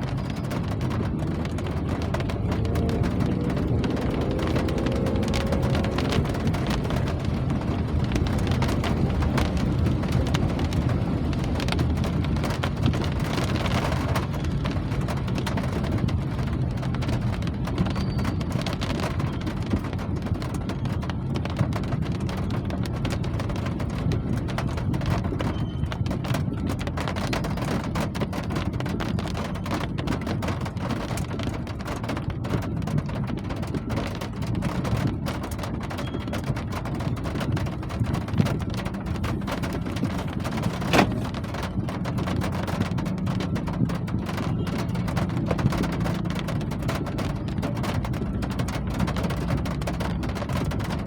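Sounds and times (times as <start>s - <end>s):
continuous low rumble: 0.0s - 51.0s
raindrops ticking: 0.0s - 51.0s.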